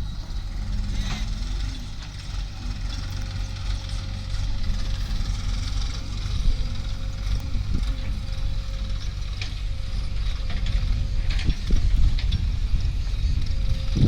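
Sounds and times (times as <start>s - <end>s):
faint steady whine: 0.0s - 14.0s
heavy diesel engine rumbling: 0.0s - 14.0s.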